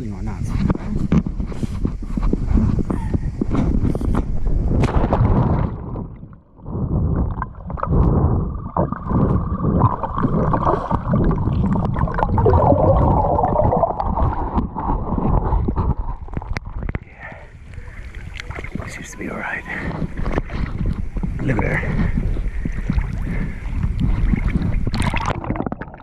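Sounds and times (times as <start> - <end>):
muffled water sloshing and gurgling: 0.0 - 26.0.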